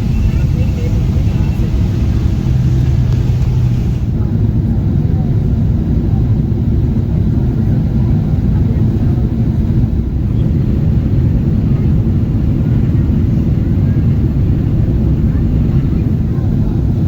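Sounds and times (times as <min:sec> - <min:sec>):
airliner engine rumble: 0:00.0 - 0:17.0.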